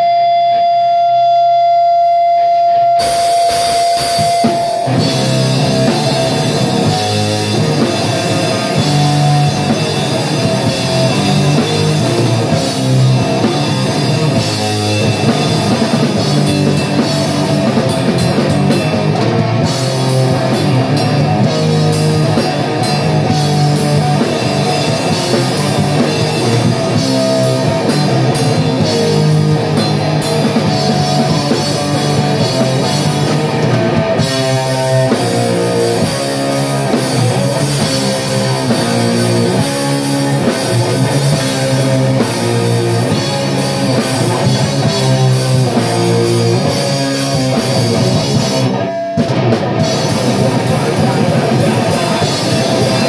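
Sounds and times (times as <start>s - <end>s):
distorted electric guitar: 0.0s - 53.0s
drum kit: 0.0s - 53.0s.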